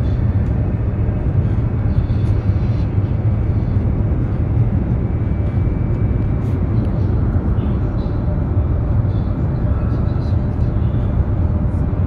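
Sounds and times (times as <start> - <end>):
train low rumble from inside: 0.0 - 12.0.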